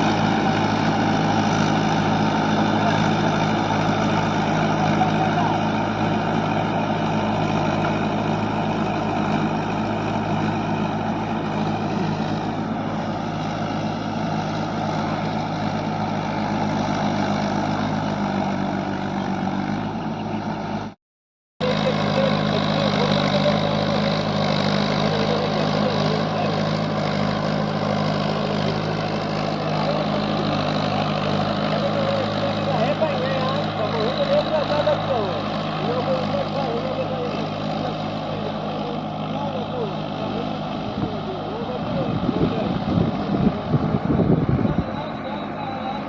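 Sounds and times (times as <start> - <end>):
tractor diesel engine running: 0.0 - 21.0, 21.6 - 46.0.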